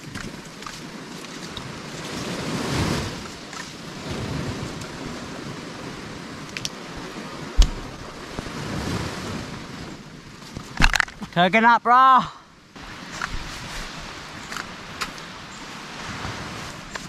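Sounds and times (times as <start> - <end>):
surf washing on a beach: 0.0 - 17.0
wind: 0.0 - 17.0.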